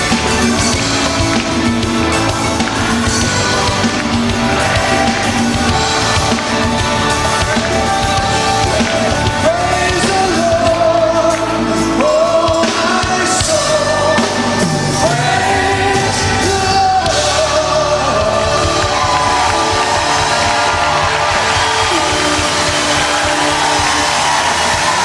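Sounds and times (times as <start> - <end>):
electric guitar: 0.0 - 25.0.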